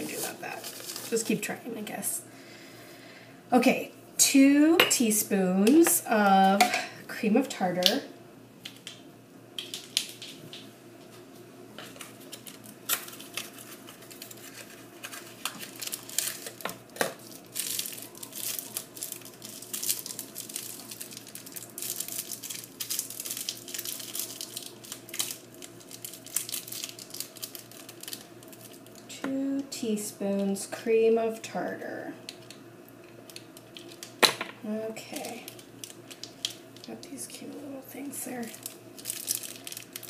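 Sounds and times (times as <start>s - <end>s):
electric fan hum: 0.0s - 40.0s.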